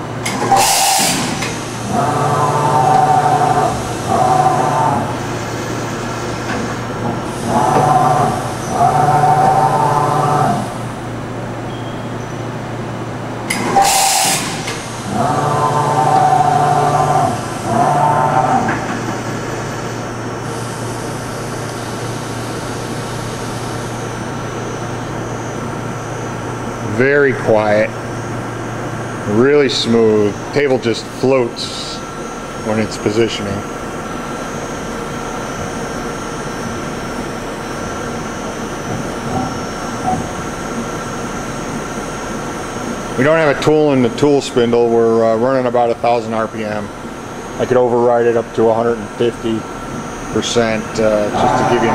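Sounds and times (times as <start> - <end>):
machine drives whining: 0.0 - 51.9.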